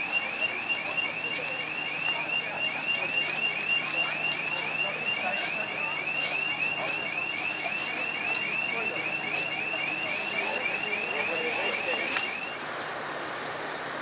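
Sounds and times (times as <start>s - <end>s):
reversing alarm warbling chirp: 0.0s - 12.6s
faint low engine hum: 0.0s - 14.0s.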